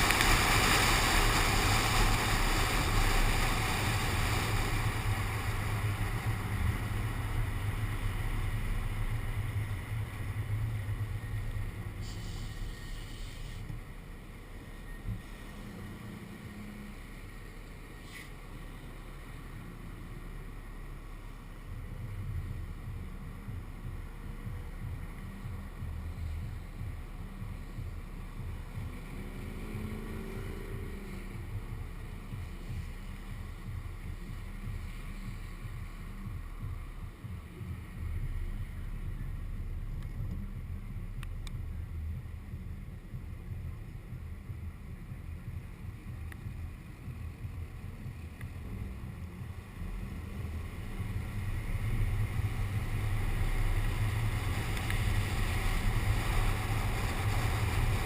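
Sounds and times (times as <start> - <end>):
low road noise rumble: 0.0 - 58.0.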